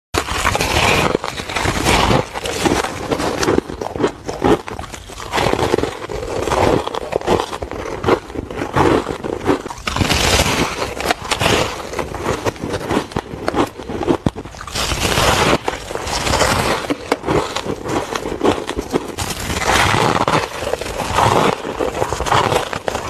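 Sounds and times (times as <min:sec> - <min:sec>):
person crunching ice: 0:00.2 - 0:23.0.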